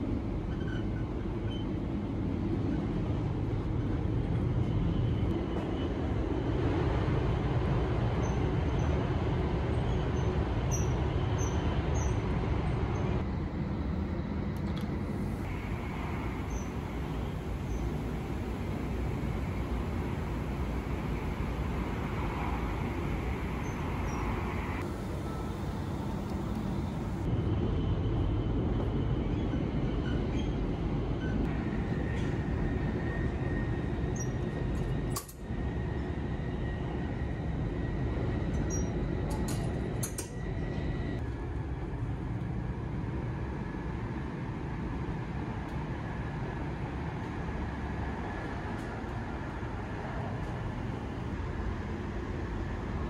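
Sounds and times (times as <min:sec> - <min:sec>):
train running noise from inside: 0:00.0 - 0:53.0.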